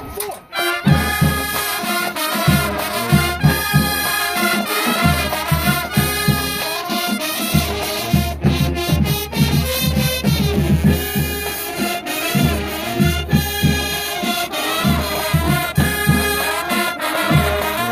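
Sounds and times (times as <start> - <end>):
marching band brass: 0.0 - 17.9
punchy drum beat: 0.0 - 17.9.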